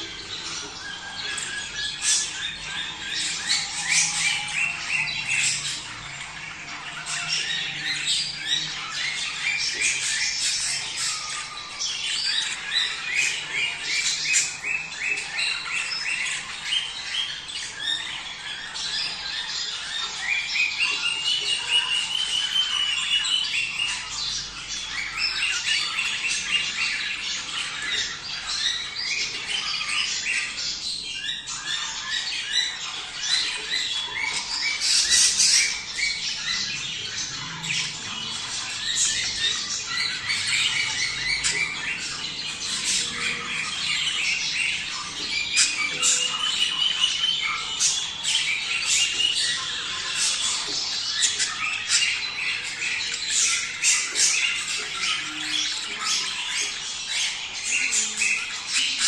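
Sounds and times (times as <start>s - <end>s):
budgerigars chattering and warbling: 0.0s - 59.0s.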